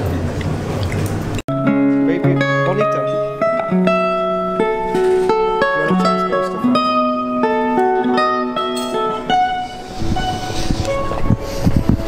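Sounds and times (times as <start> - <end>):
fingerpicked classical guitar: 1.5 - 12.0.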